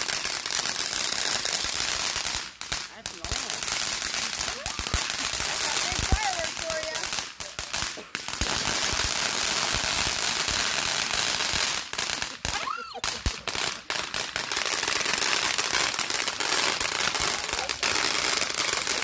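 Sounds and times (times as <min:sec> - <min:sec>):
firework fountain hissing and crackling: 0:00.0 - 0:19.0.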